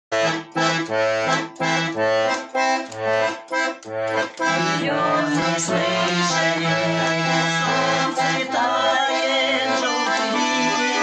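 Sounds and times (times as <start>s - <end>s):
button accordion waltz: 0.1s - 11.0s.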